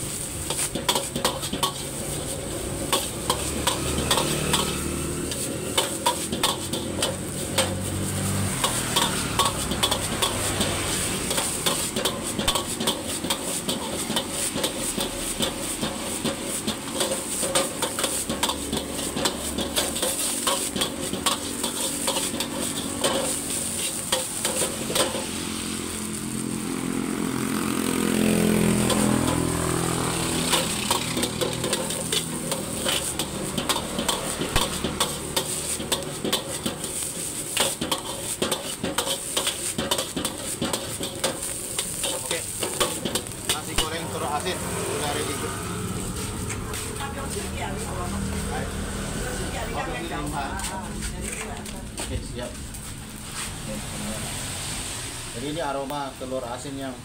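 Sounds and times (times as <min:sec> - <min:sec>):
metal spatula scraping a wok: 0:00.0 - 0:26.6, 0:28.3 - 0:55.3
rice sizzling: 0:00.0 - 0:57.0.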